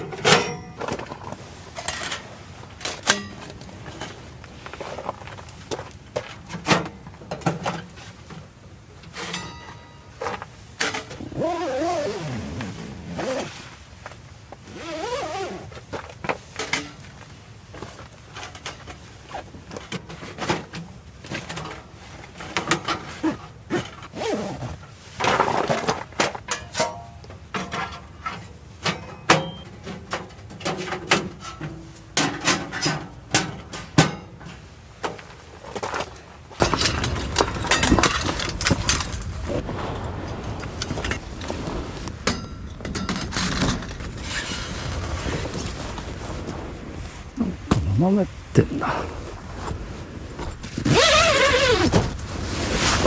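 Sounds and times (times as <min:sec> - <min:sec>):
objects being handled clattering: 0:00.0 - 0:45.8.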